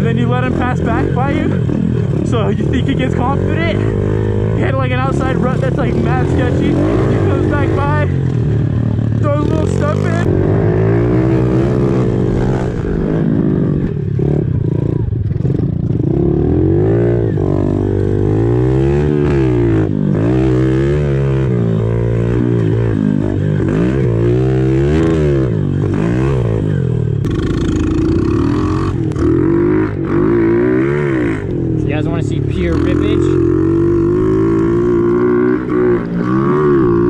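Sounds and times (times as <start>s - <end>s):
motorbike engine revving: 0.0s - 37.0s.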